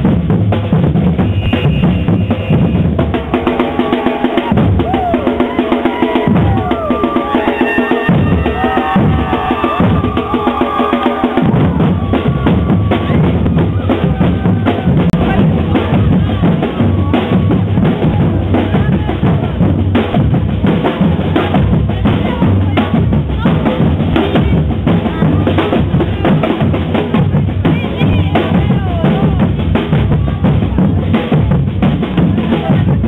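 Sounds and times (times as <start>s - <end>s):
group drumming: 0.0s - 33.0s
crowd voices: 1.1s - 33.0s.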